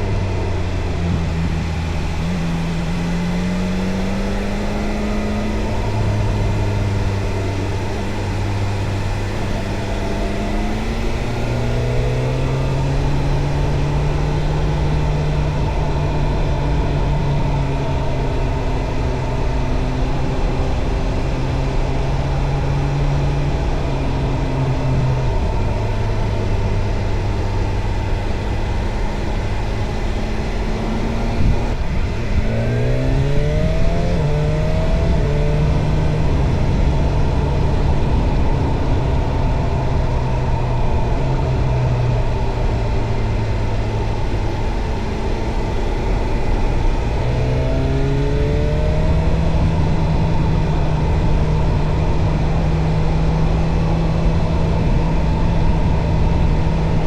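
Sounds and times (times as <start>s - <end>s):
motorcycle engine revving: 0.0s - 57.0s
steady rushing noise: 0.0s - 57.0s.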